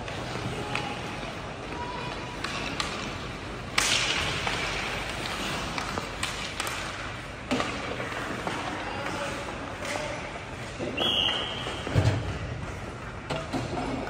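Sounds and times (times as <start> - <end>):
hockey sticks clacking on puck: 0.0 - 14.0.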